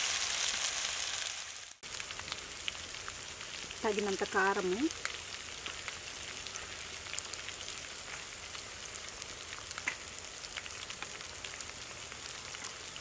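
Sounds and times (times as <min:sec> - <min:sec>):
onions frying in hot oil: 0:00.0 - 0:13.0.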